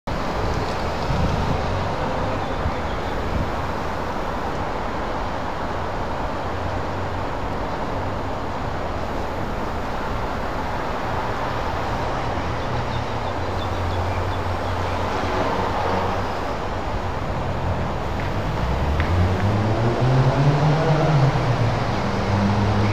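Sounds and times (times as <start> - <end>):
motorway traffic rumble: 0.1 - 22.9.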